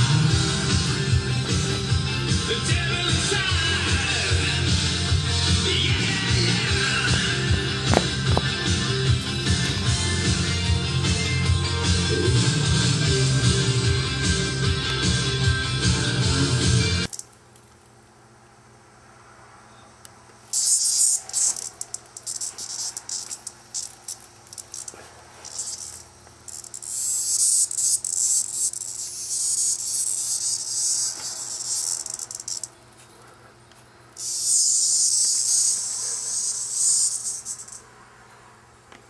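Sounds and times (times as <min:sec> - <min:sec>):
cicada buzzing: 0:00.0 - 0:17.4, 0:18.9 - 0:33.4, 0:34.0 - 0:38.6.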